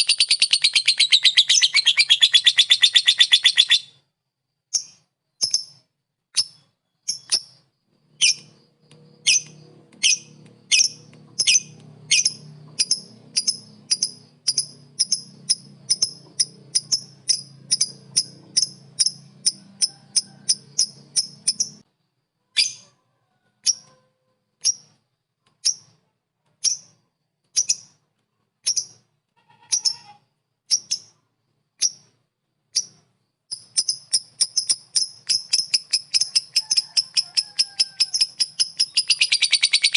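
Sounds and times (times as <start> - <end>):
lovebird chirping: 0.0 - 4.0, 4.7 - 21.9, 22.5 - 22.9, 27.6 - 28.0, 28.6 - 39.9.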